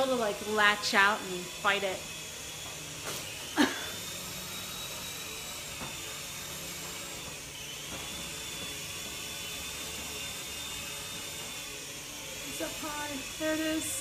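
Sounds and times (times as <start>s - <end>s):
toy helicopter motor whine: 0.0s - 14.0s.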